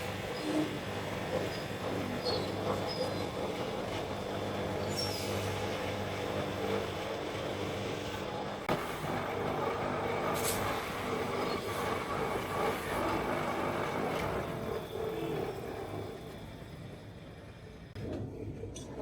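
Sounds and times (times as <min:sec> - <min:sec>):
mechanical humming: 0:00.0 - 0:18.2.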